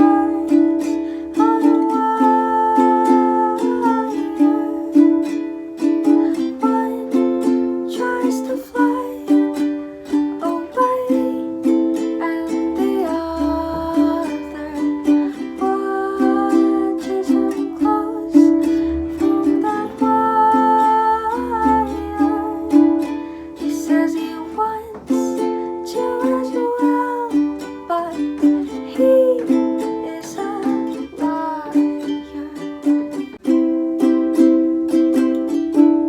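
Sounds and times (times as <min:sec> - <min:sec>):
ukulele strumming chords: 0:00.0 - 0:36.0.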